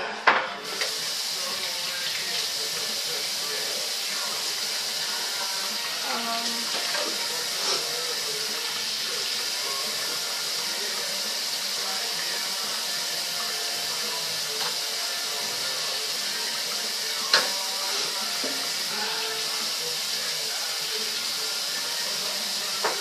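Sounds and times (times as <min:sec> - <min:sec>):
kitchen tap running: 0:00.6 - 0:23.0.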